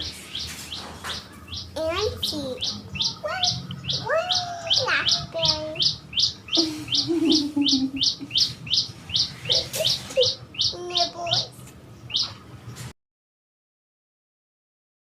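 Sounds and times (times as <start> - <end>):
small bird chirping: 0.0 - 12.9.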